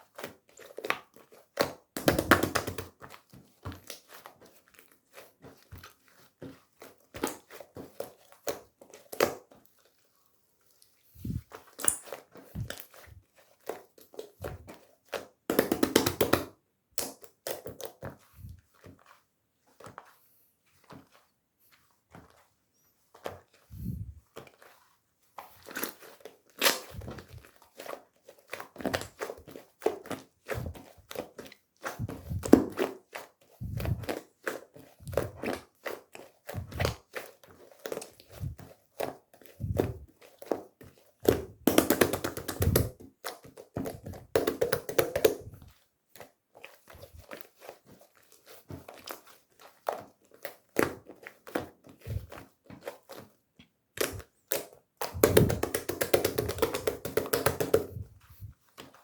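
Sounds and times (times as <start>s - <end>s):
hands tapping paper squishy: 0.2s - 9.6s, 11.2s - 20.2s, 23.2s - 59.0s.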